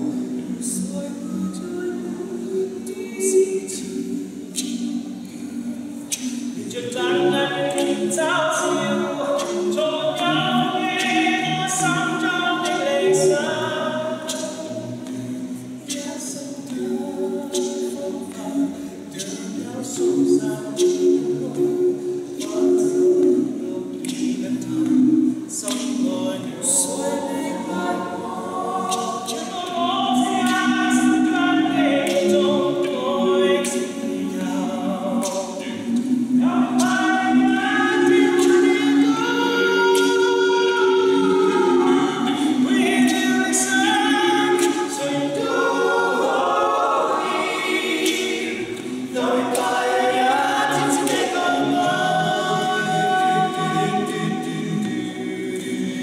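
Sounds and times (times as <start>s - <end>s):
male vocal quartet singing: 0.0s - 56.0s.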